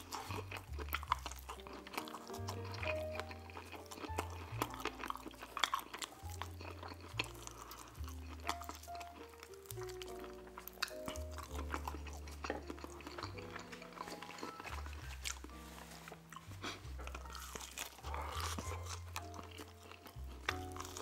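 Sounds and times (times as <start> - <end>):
background music with bass: 0.0 - 21.0
chewing and lip-smacking: 0.0 - 21.0.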